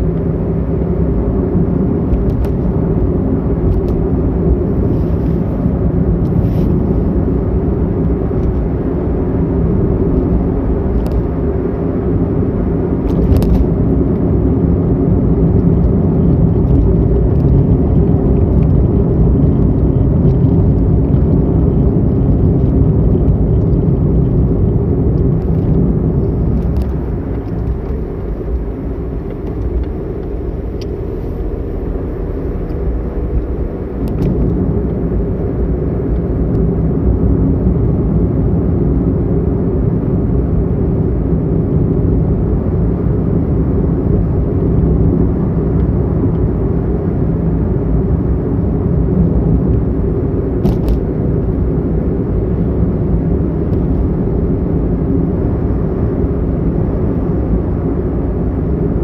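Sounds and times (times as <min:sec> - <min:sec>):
engine and tyre rumble in car: 0:00.0 - 0:59.0.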